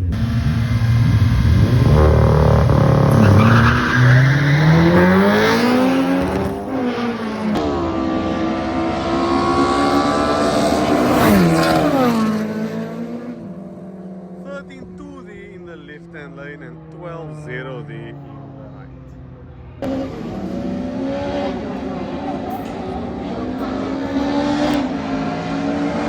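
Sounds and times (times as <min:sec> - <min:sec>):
drag racing cars accelerating: 0:00.0 - 0:26.0.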